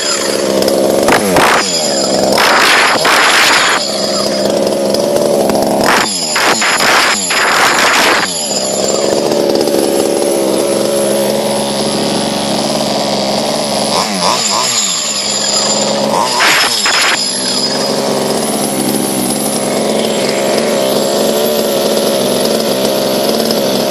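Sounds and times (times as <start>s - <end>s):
two-stroke engine revving: 0.0s - 23.9s.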